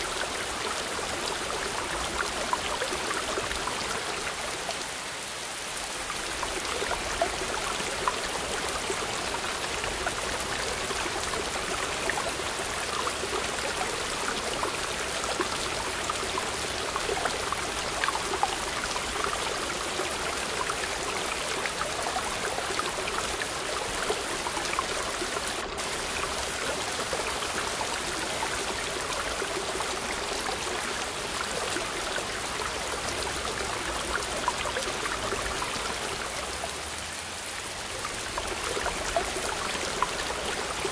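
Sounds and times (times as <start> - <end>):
stream splashing over boulders: 0.0 - 40.9.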